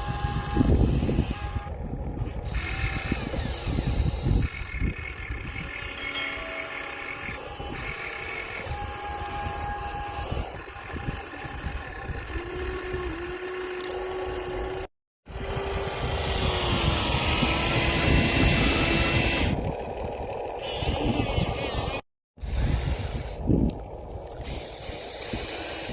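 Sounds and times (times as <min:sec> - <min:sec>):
small electric motors whirring: 0:00.0 - 0:25.9.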